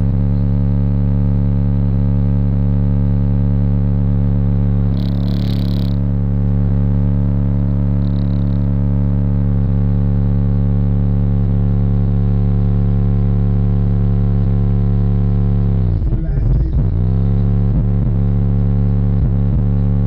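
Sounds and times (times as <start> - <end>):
subwoofers playing low bass: 0.0 - 20.0.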